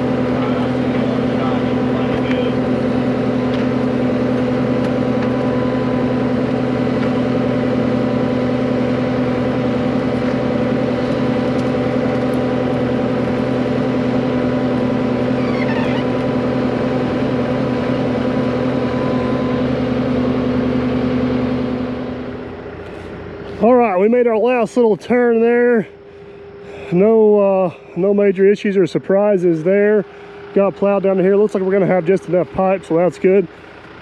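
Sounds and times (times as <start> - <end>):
diesel engine running under load: 0.0 - 34.0.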